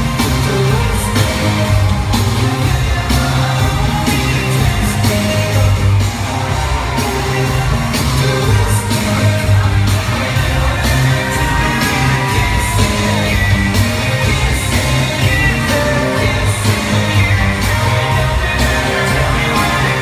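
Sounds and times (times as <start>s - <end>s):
live pop band: 0.0s - 20.0s
man singing into microphone: 0.0s - 20.0s.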